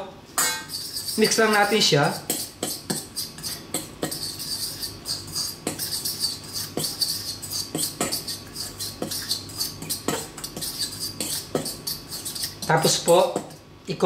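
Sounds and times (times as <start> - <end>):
fork swishing dry mix: 0.7 - 13.1.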